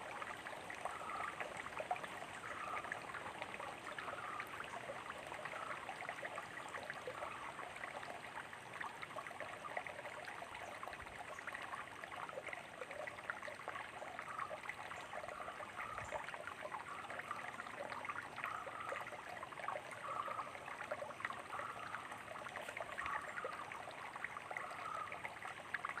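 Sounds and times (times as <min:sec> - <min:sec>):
stream trickling and splashing: 0:00.0 - 0:26.0.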